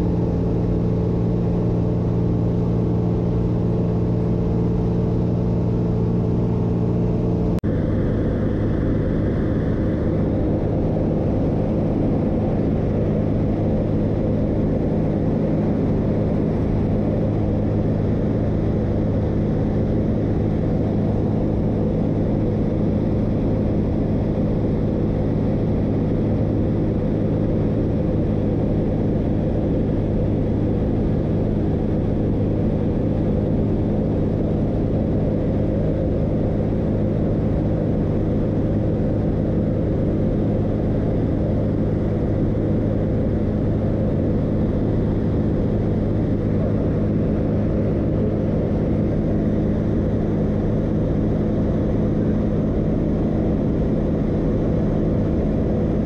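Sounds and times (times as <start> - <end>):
aircraft engine and propeller droning: 0.0 - 56.0.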